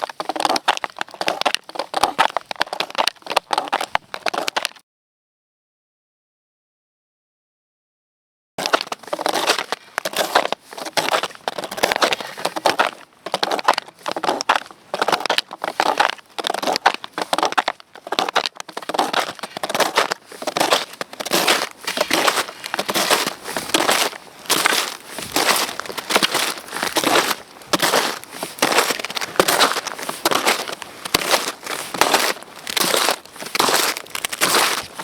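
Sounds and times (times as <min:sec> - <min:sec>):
snowshoes crunching on snow: 0:00.0 - 0:04.8, 0:08.6 - 0:35.0.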